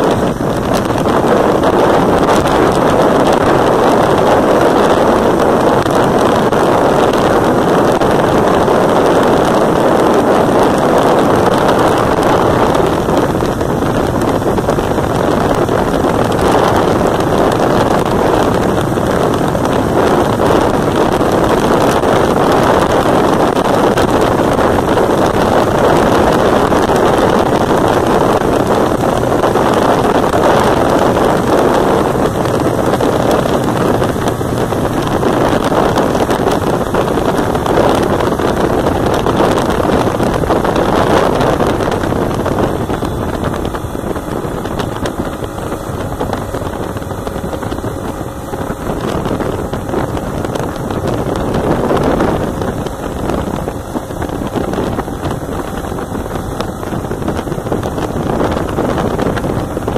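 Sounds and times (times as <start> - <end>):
motorcycle running noise: 0.0 - 59.9
wind buffeting microphone: 0.0 - 59.9.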